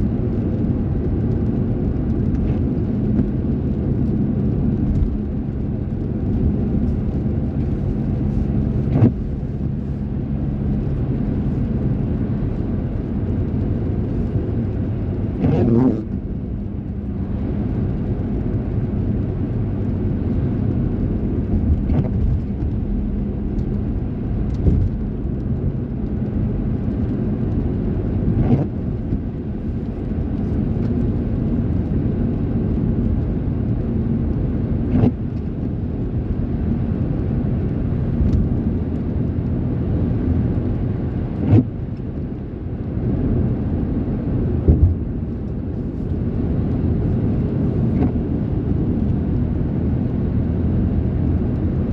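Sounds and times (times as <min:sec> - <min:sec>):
vehicle rumble: 0:00.0 - 0:51.9.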